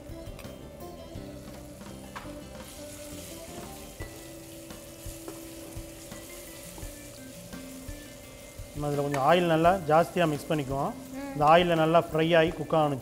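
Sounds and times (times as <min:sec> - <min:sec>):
background music with held tones: 0:00.0 - 0:13.0
chicken sizzling in oil: 0:00.8 - 0:13.0.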